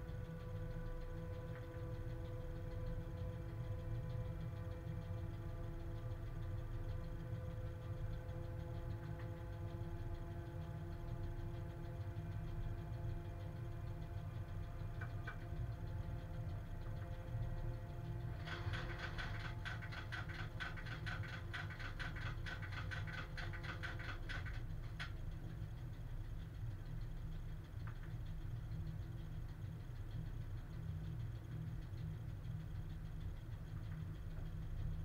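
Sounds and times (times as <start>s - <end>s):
low locomotive rumble: 0.0s - 35.0s
rapid sharp high clicks: 0.0s - 35.0s
steady humming tones: 0.0s - 35.0s.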